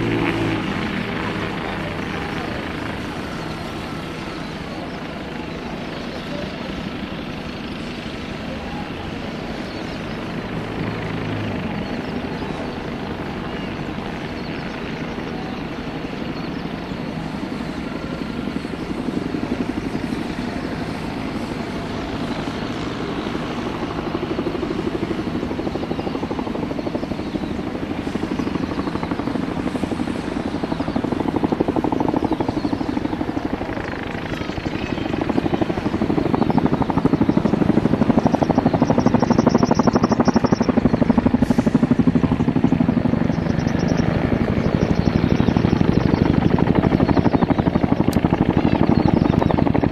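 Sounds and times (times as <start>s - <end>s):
helicopter rotor chop: 0.0s - 49.9s.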